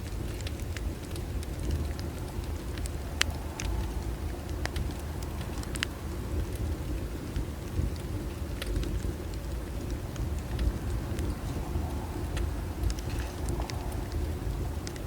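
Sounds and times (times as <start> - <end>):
low rumble: 0.0 - 15.0
wood fire crackling: 0.0 - 15.0.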